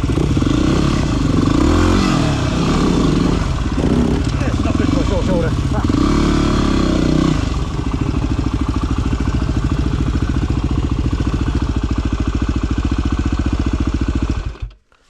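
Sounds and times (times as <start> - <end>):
dirt bike engine idling: 0.0 - 14.9.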